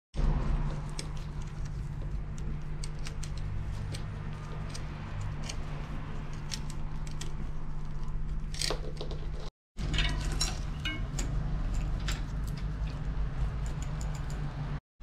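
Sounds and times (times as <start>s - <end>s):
metallic clicks on bicycle parts: 0.9s - 9.2s, 9.8s - 14.6s.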